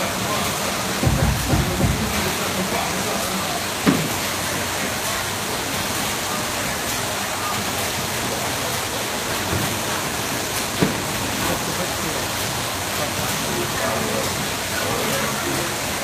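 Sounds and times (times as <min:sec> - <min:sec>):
bottle packaging line machinery: 0:00.0 - 0:16.0.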